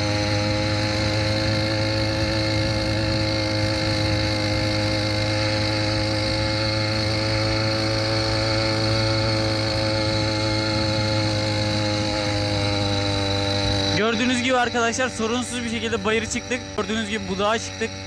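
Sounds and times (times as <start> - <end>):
small engine running under load: 0.0 - 18.0.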